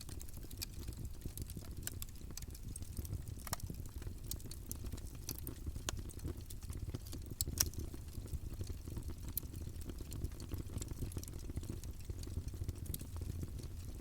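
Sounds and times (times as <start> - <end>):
burning wood crackling and popping: 0.0 - 14.0
low rumble of flame: 0.0 - 14.0.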